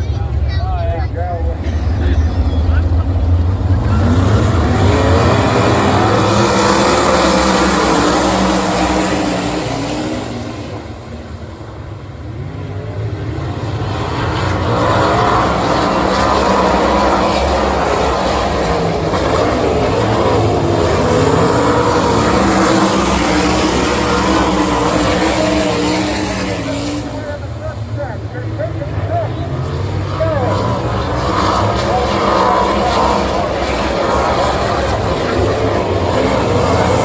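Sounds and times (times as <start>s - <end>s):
race car engines at full throttle: 0.0s - 37.0s.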